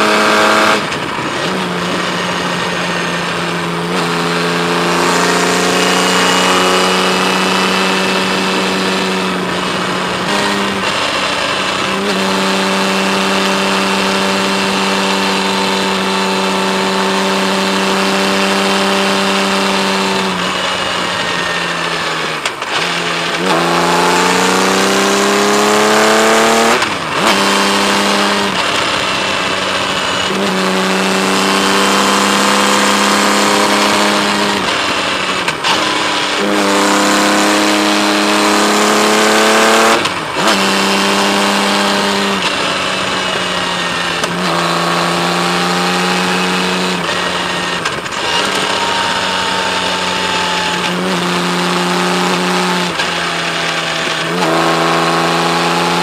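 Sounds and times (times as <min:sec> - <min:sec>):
motorcycle engine pulling: 0:00.0 - 0:56.0.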